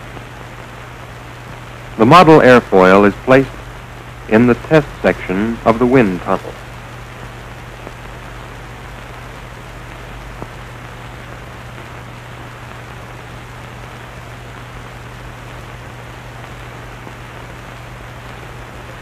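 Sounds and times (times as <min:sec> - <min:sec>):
film soundtrack hiss and hum: 0:00.0 - 0:19.0.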